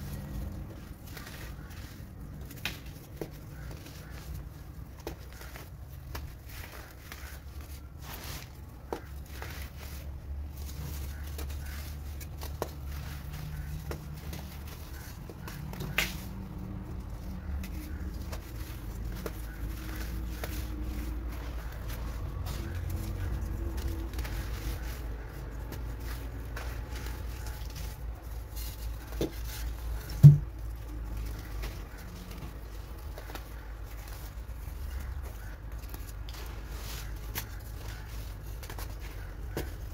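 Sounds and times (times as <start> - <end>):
baking soda crunching: 0.0 - 39.9.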